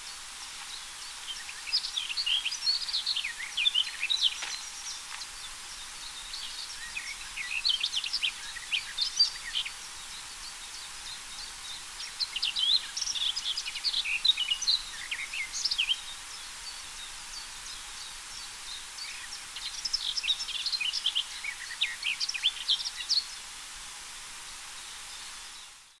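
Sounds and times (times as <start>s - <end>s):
warbler singing: 0.0s - 23.7s
steady background hiss: 0.0s - 26.0s.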